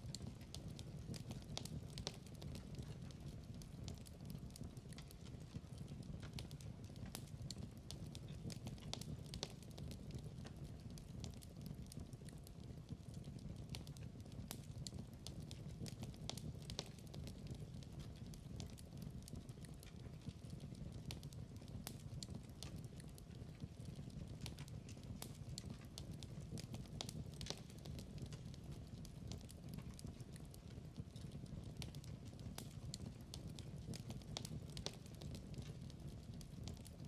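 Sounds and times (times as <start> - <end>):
fire crackling with pops: 0.0 - 37.0.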